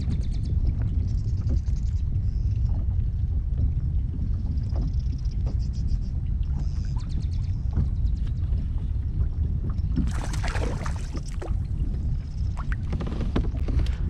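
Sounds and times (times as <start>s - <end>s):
wind rumble on microphone: 0.0s - 14.0s
water splashing beside kayak: 2.6s - 14.0s.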